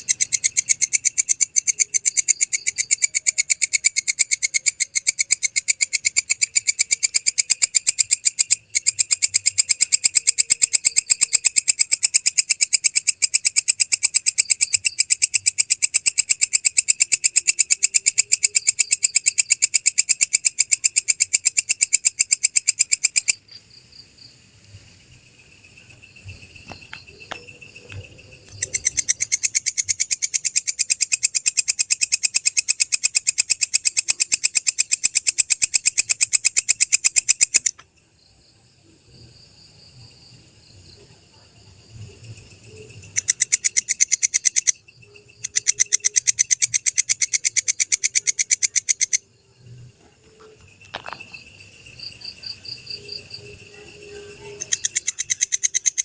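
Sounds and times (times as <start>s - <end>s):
katydid clicking trills: 0.0s - 23.6s, 25.9s - 37.9s, 42.0s - 56.0s
faint chirping: 0.0s - 56.0s.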